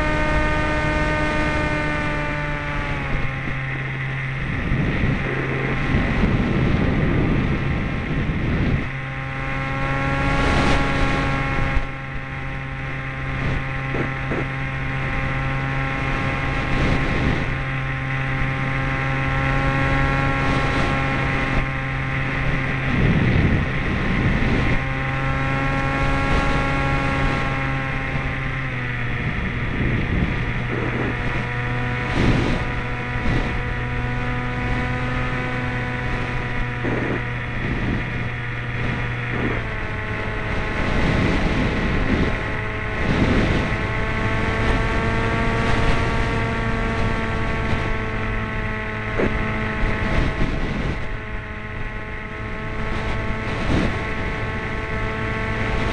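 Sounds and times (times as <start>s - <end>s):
model aircraft motor whine: 0.0s - 55.9s
wind buffeting microphone: 0.0s - 55.9s.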